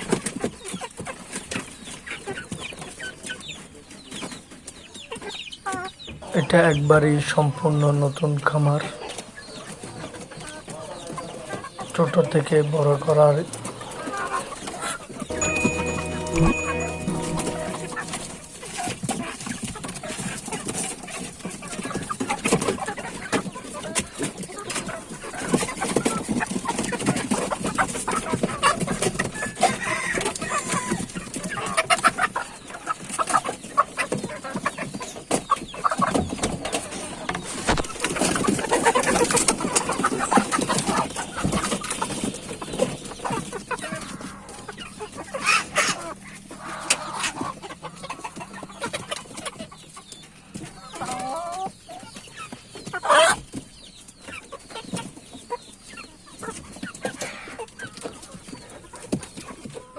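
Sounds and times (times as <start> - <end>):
chickens clucking and calling: 0.0 - 18.7, 20.4 - 59.9.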